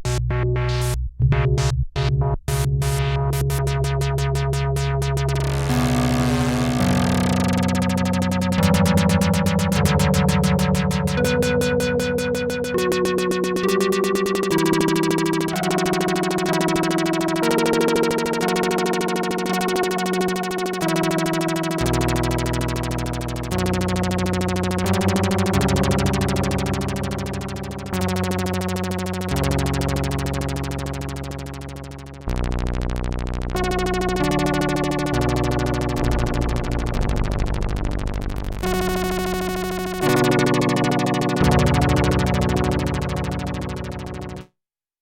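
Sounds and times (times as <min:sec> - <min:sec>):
synthesizer sustained chords: 0:02.8 - 0:44.4.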